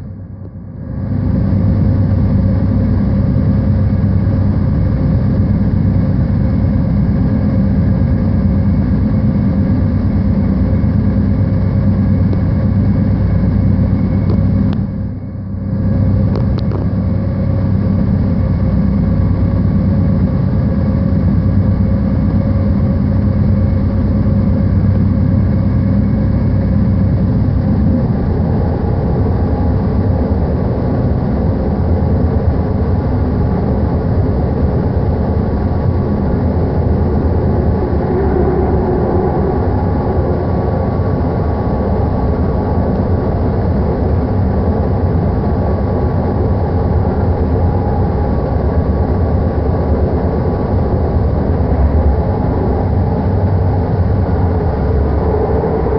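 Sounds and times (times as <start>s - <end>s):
faint steady whine: 0.0s - 55.9s
train wheels rumbling on rail: 0.0s - 55.9s.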